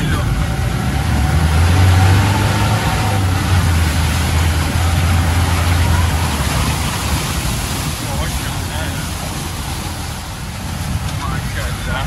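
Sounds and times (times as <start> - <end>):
mud splashing on windscreen: 0.0 - 12.0
tyre water and rain noise: 0.0 - 12.0
vehicle engine under load: 0.0 - 12.0.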